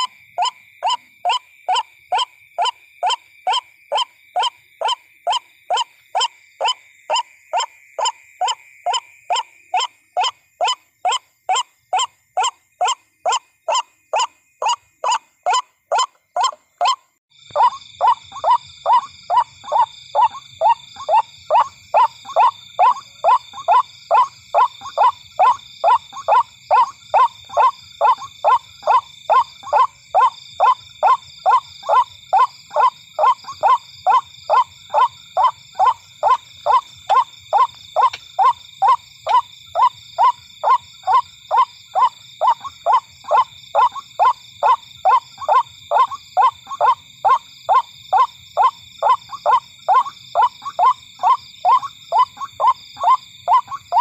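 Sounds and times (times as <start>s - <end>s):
bird calling harsh notes: 9.3s - 54.0s.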